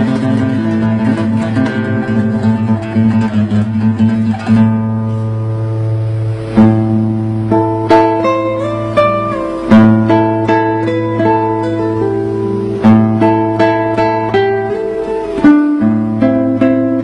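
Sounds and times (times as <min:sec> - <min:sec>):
solo classical guitar: 0:00.0 - 0:17.0.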